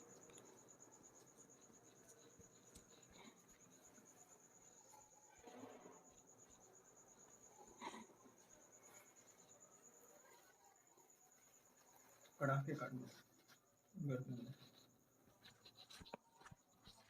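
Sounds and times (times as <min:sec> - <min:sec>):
cricket trilling: 0:00.0 - 0:17.0.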